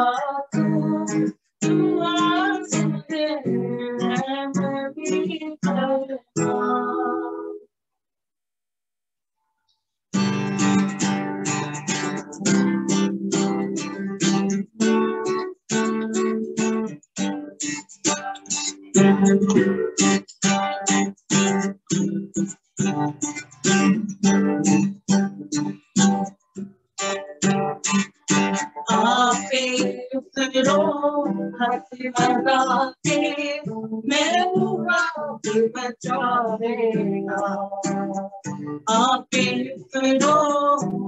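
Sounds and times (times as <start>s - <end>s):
acoustic guitar strumming chords: 0.0s - 7.6s, 10.2s - 41.0s.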